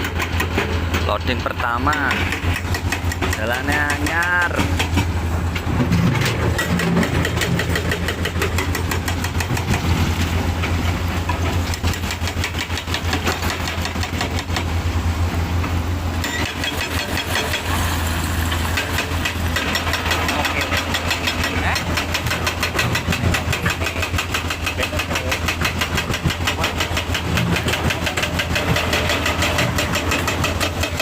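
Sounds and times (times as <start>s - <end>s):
diesel engine clattering: 0.0s - 31.0s.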